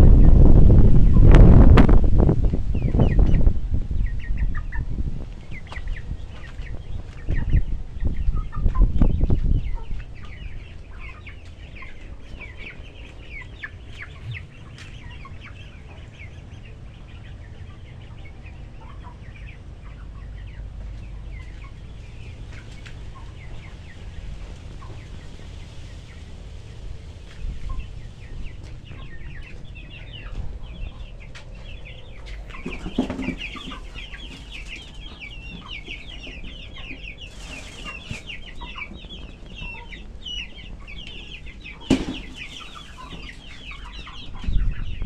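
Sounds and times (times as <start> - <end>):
loud low rumbles: 0.0 - 12.2, 12.9 - 37.2
chickens clucking: 0.0 - 45.0.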